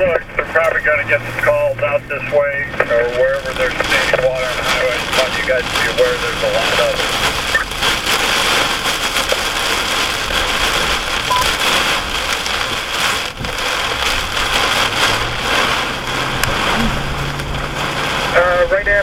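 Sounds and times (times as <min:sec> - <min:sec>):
heavy rain drumming on vehicle: 0:00.0 - 0:19.0.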